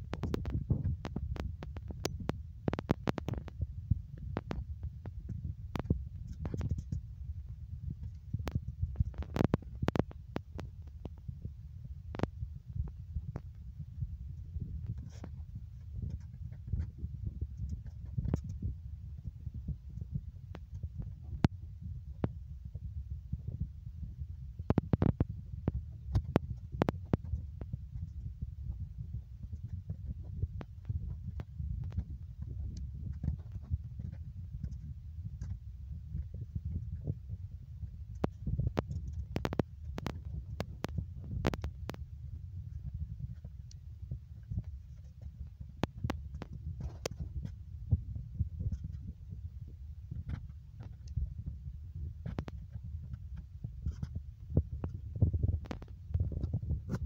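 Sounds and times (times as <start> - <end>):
wind and handling rumble: 0.0 - 57.0.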